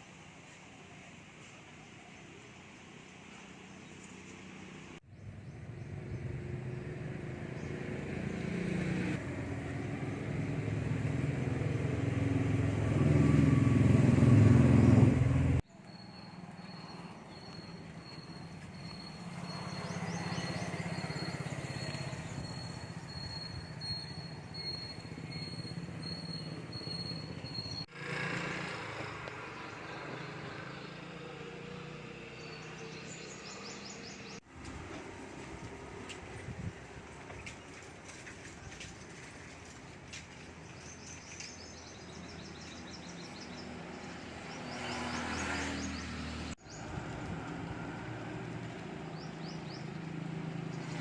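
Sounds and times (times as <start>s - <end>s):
outdoor ambience: 0.0s - 51.0s
vehicle engine approaching: 3.2s - 51.0s.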